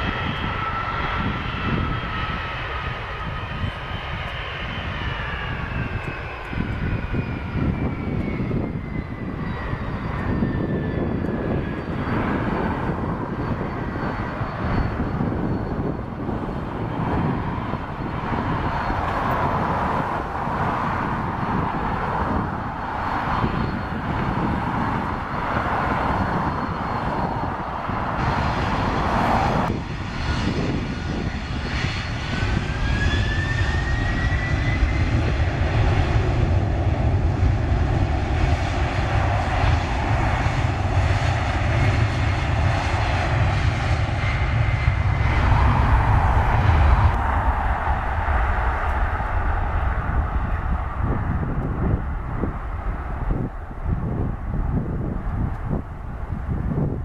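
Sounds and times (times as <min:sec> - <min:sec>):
jet engine whine: 0:00.0 - 0:57.0
jet engines running: 0:00.0 - 0:57.0.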